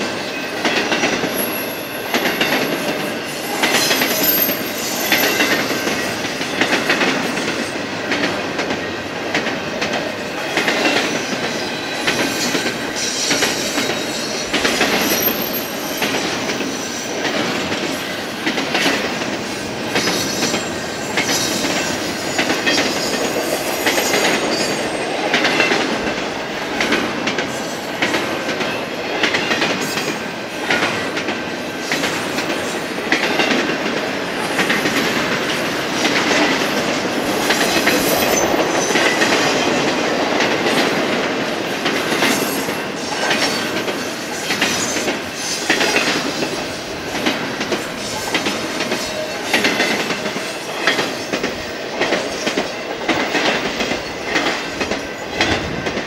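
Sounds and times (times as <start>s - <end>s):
freight train wheels rumbling: 0.0s - 56.0s
wheels clacking over rail joints: 0.5s - 56.0s.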